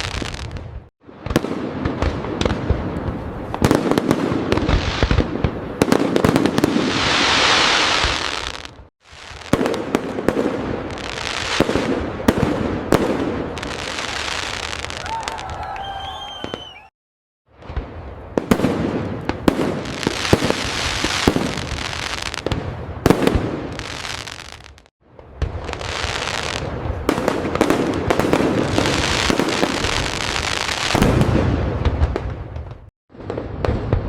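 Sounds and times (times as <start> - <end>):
fireworks bangs and booms: 0.0 - 15.7, 17.5 - 34.0
fireworks crackling: 0.0 - 16.9, 17.6 - 34.0.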